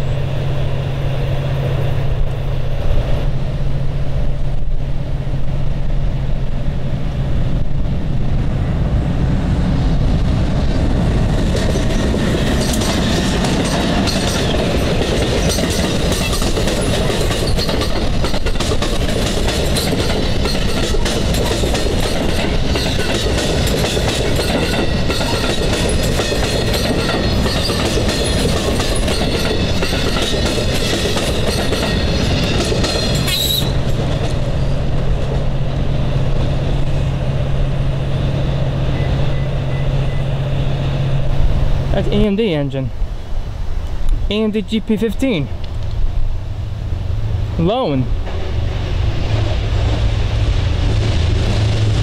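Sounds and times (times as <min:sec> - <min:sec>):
train passing with rail noise: 0:00.0 - 0:52.0.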